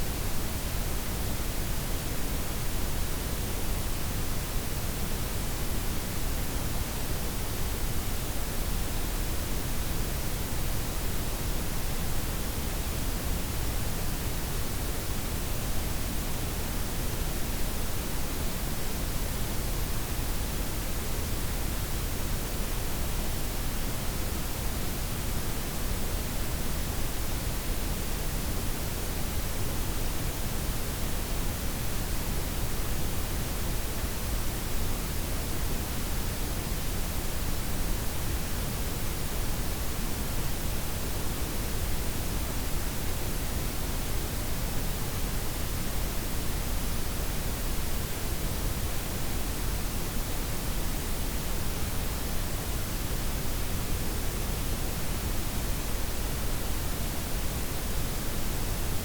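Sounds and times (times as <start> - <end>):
steady noise hiss: 0.0 - 59.0.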